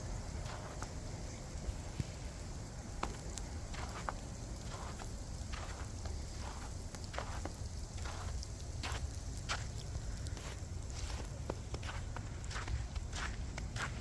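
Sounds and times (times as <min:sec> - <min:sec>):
crackling ticks and crunches: 0:00.0 - 0:14.0.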